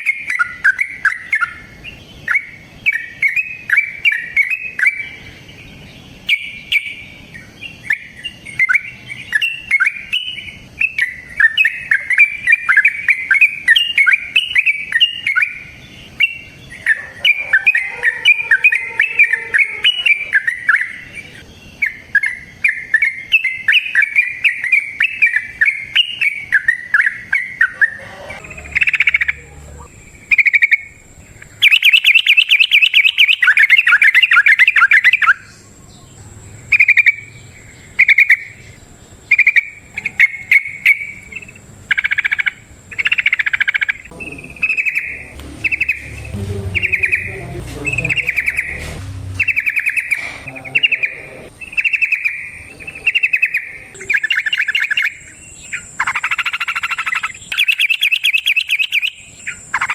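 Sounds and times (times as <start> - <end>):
bird singing bubbly chatter: 0.0 - 59.9.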